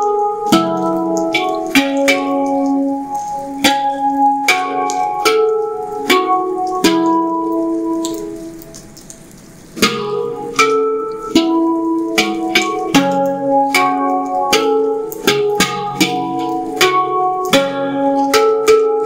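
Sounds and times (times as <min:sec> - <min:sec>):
handpan notes ringing: 0:00.0 - 0:09.1, 0:09.8 - 0:19.0.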